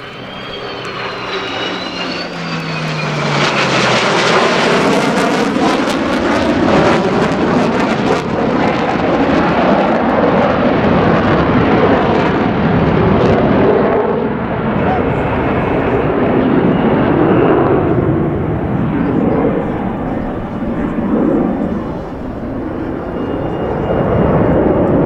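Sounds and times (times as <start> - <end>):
military aircraft flyby: 0.0 - 25.0.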